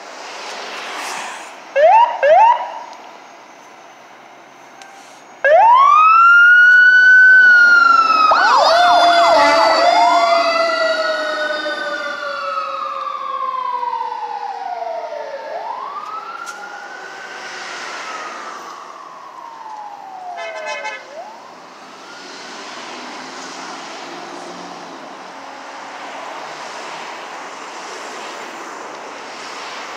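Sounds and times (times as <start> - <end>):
traffic and road noise: 0.0 - 29.9
fire engine siren wailing: 1.8 - 3.0, 4.8 - 27.9.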